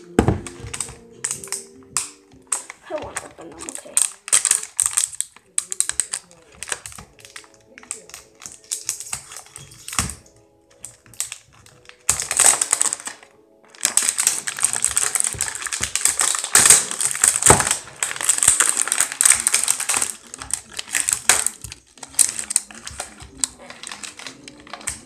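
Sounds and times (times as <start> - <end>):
plastic packaging handled: 0.0 - 25.0
plastic wrap crackling: 0.0 - 25.0.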